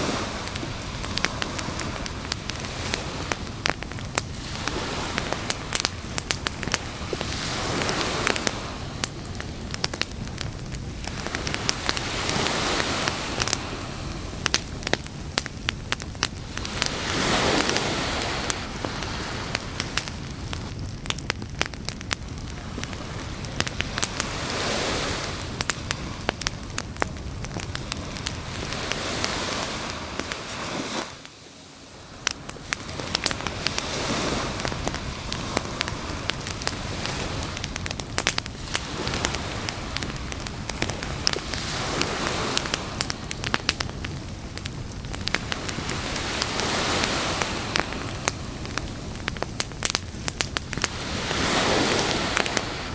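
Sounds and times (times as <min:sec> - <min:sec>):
campfire crackling and popping: 0:00.0 - 0:52.9
surf washing in and out: 0:00.0 - 0:52.9.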